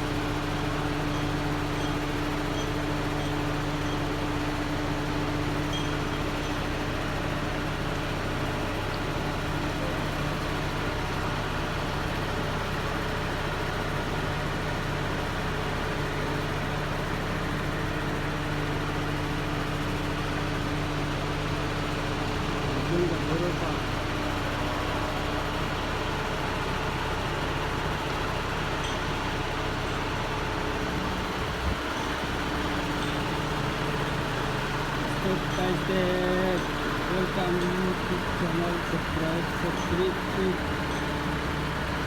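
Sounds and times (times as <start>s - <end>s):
vehicle engine humming: 0.0s - 42.0s.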